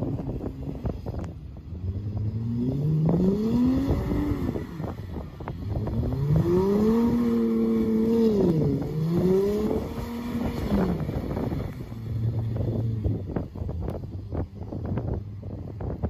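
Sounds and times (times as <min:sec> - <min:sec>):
car engine revving: 0:00.0 - 0:16.0
tyres spinning on snow: 0:00.0 - 0:16.0.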